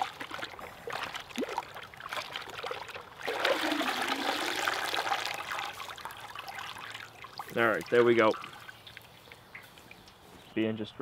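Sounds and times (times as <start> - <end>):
water pouring off: 0.0 - 9.2
water sloshing and splashing in pot: 0.0 - 10.0.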